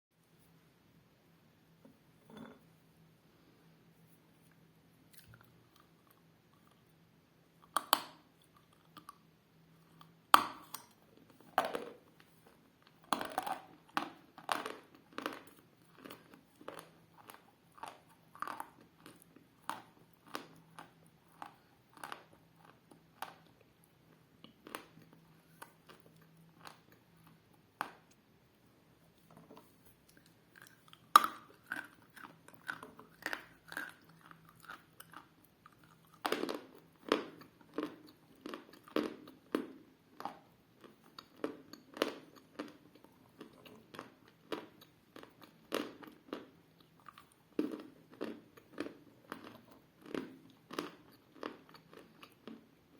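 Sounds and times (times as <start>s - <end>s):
faint steady hum: 0.2s - 52.9s
crunching chews of dry clay: 7.6s - 28.2s, 29.2s - 52.9s.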